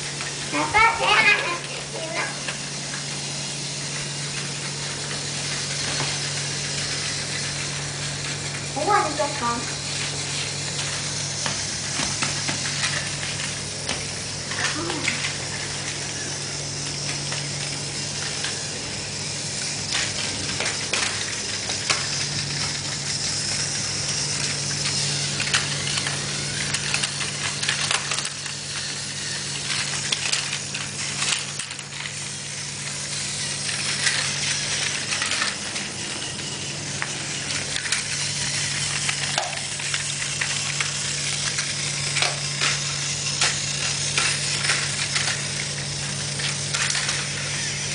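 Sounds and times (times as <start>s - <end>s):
toy train motor hum: 0.0s - 47.9s
wheels clicking on plastic track: 0.0s - 47.9s.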